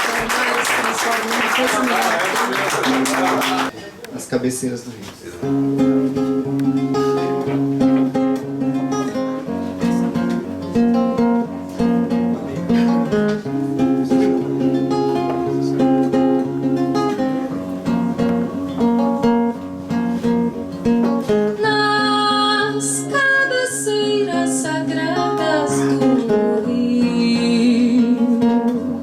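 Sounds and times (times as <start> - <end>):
acoustic guitar strummed and picked: 5.4 - 29.0.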